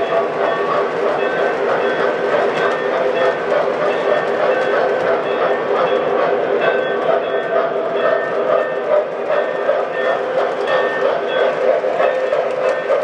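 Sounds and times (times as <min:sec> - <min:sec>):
model train motor hum: 0:00.0 - 0:13.0.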